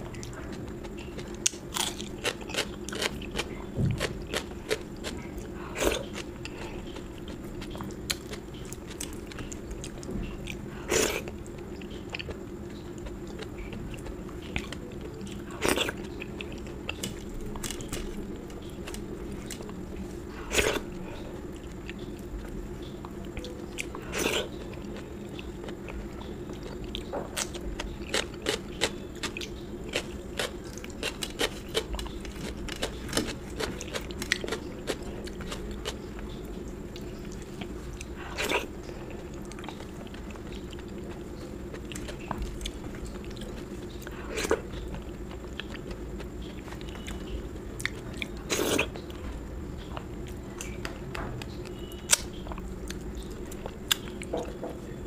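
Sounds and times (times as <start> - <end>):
chewing and mouth sounds: 0.0 - 54.6
steady background hum: 0.0 - 55.0.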